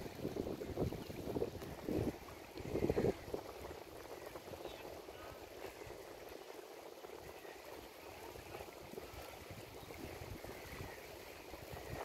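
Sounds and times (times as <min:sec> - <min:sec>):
river water flowing and lapping: 0:00.0 - 0:12.0.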